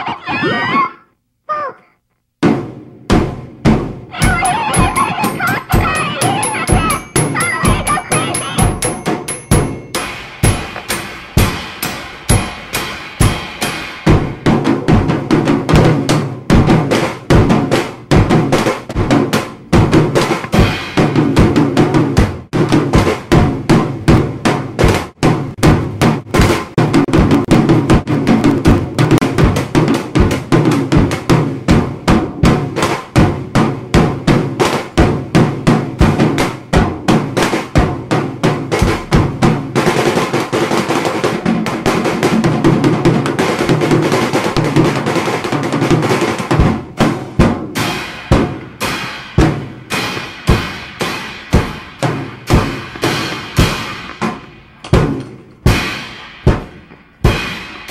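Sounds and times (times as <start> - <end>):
drum kit playing: 2.4 - 57.9.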